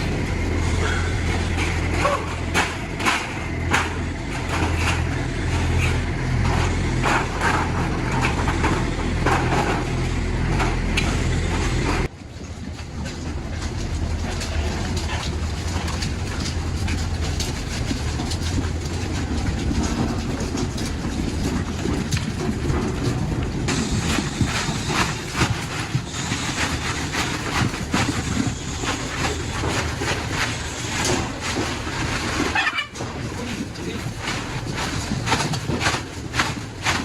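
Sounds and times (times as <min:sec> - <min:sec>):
knocks and clatter: 0:00.0 - 0:37.0
low mechanical hum: 0:00.0 - 0:37.0.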